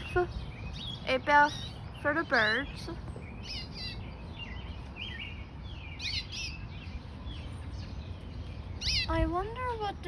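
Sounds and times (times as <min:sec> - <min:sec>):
canaries chirping: 0:00.0 - 0:10.0.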